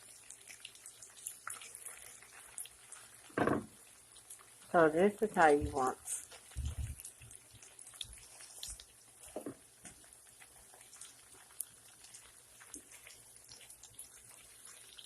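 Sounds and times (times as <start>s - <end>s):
potatoes frying in oil: 0.0s - 15.0s.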